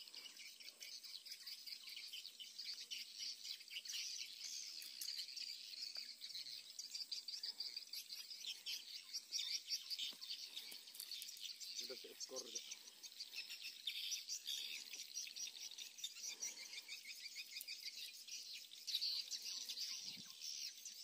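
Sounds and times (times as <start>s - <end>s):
bird calls: 0.0s - 21.0s
high-pitched insect chirping: 0.0s - 21.0s.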